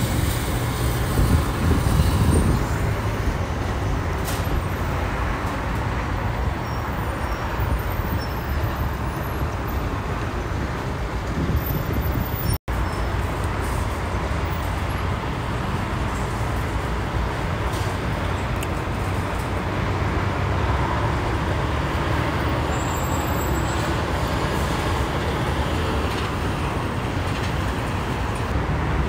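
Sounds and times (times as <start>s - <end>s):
freeway traffic noise: 0.0s - 29.0s.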